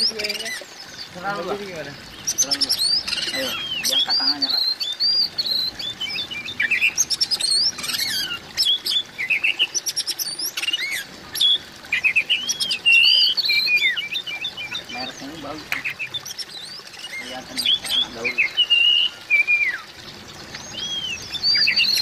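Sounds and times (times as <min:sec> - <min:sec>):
magpie-robin singing: 0:00.0 - 0:19.9, 0:20.5 - 0:22.0.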